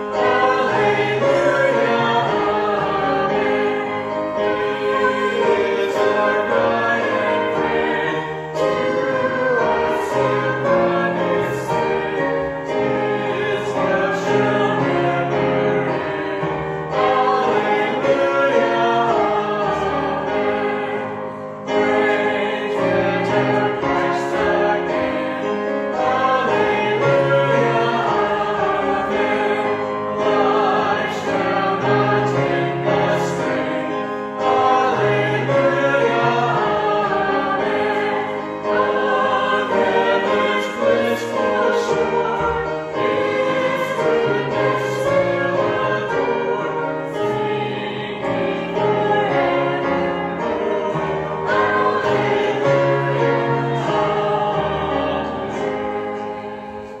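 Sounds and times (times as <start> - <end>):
congregation singing a hymn: 0.0 - 57.0
piano: 0.0 - 57.0.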